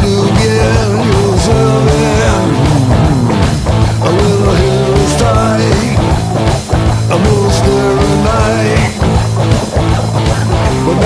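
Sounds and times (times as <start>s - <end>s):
person singing: 0.0s - 9.4s, 10.3s - 11.0s
guitar: 0.0s - 11.0s
rock music with steady beat: 0.0s - 11.0s.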